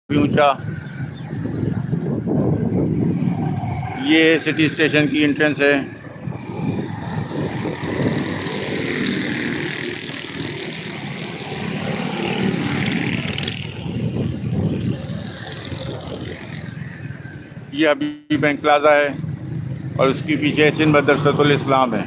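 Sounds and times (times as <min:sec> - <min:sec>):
motorcycle engine and road rumble: 0:00.1 - 0:22.0
other motorcycles in traffic: 0:00.1 - 0:22.0.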